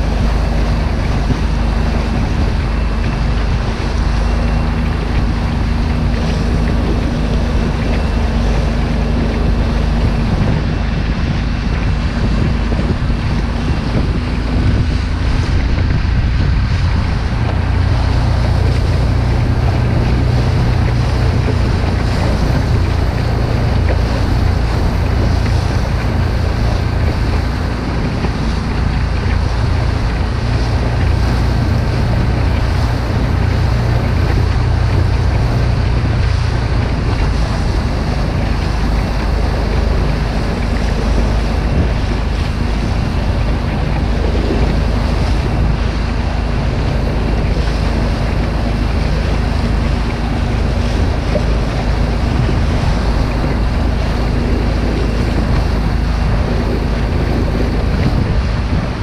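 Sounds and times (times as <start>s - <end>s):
outboard motor running: 0.0s - 59.0s
water slapping against hull: 0.0s - 59.0s
wind buffeting microphone: 0.0s - 59.0s.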